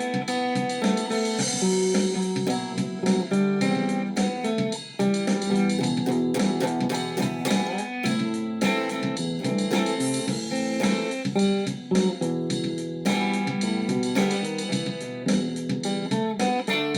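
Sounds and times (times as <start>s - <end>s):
guitar music: 0.0s - 16.9s.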